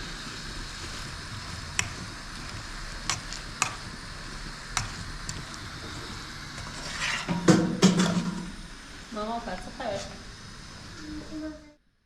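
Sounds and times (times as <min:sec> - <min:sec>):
food sizzling in a frying pan: 0:00.0 - 0:11.8.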